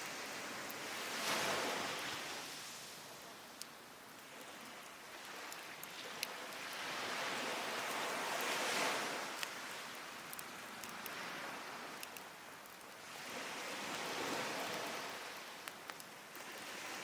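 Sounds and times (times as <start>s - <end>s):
surf washing on shore: 0.0s - 17.0s
wood fire crackling: 0.0s - 17.0s.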